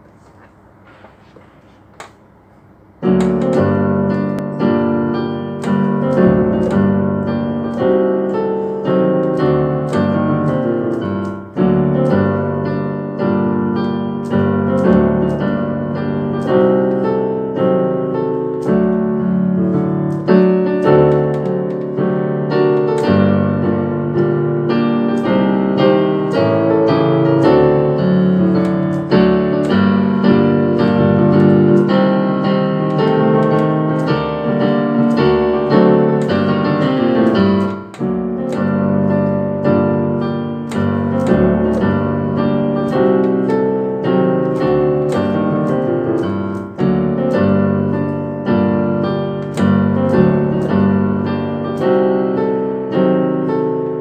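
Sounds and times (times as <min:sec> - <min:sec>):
solo keyboard music: 0:00.0 - 0:54.0.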